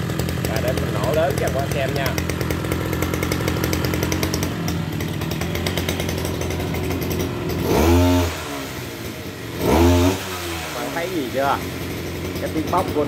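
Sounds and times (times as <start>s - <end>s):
brush cutter engine revving: 0.0s - 13.0s.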